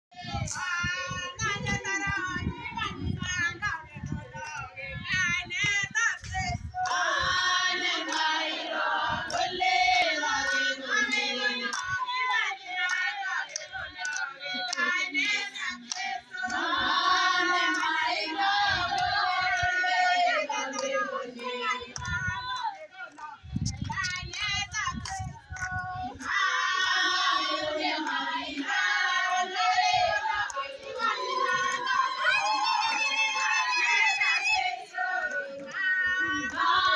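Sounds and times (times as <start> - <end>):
women singing together: 0.1 - 36.9
hands clapping: 4.4 - 4.7, 5.5 - 36.9.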